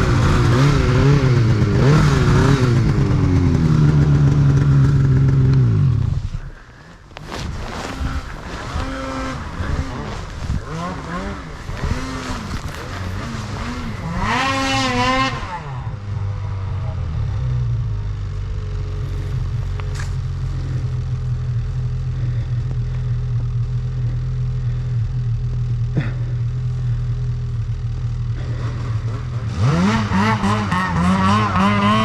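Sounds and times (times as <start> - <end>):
snowmobile engine revving: 0.0 - 32.0.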